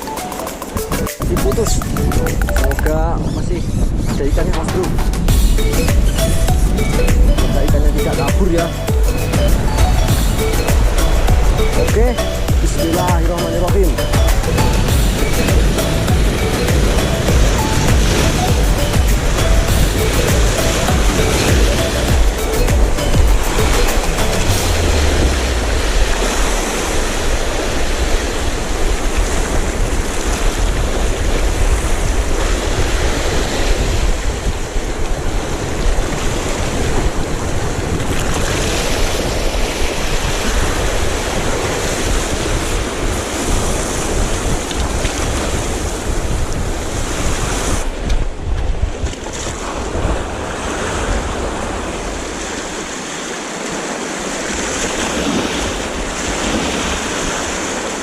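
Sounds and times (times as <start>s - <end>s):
sea waves washing ashore: 0.0s - 58.0s
wind buffeting microphone: 1.2s - 53.0s.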